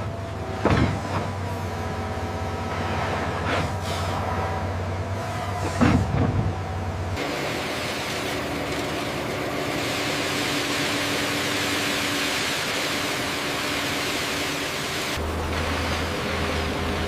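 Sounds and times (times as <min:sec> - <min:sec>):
engine hum with low tone: 0:00.0 - 0:17.0.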